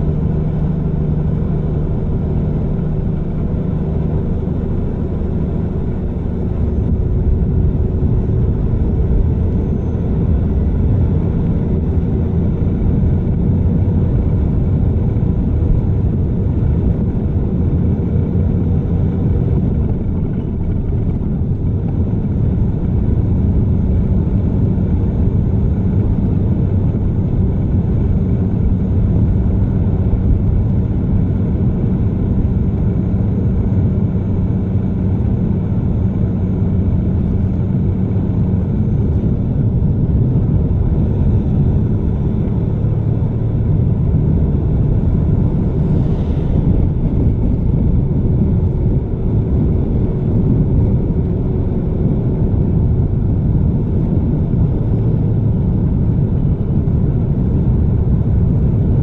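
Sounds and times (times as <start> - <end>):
truck diesel engine rumbling: 0.0 - 59.0
wind and road noise: 0.0 - 59.0.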